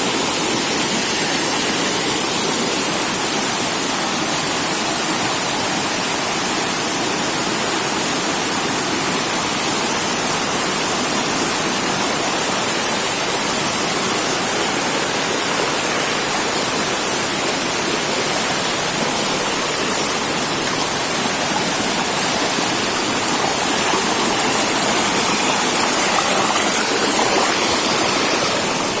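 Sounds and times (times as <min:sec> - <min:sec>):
rush of falling water: 0:00.0 - 0:29.0.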